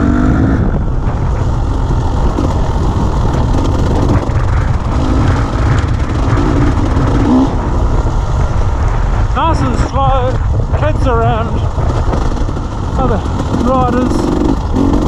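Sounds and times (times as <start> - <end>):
dirt bike engine rumbling: 0.0 - 15.0.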